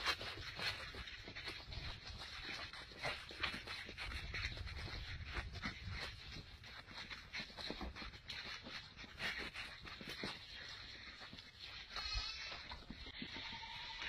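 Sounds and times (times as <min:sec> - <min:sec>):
animals scuffling: 0:00.0 - 0:14.0.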